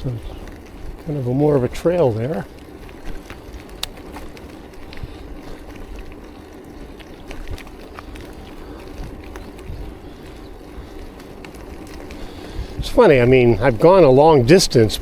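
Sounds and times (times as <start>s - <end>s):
bicycle tyre and wind rush: 0.0s - 15.0s
small clicks and rattles: 0.0s - 15.0s.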